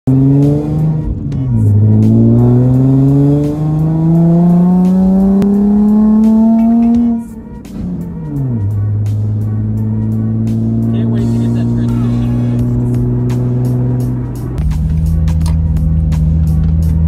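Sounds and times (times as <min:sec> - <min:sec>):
car engine accelerating: 0:00.1 - 0:17.0.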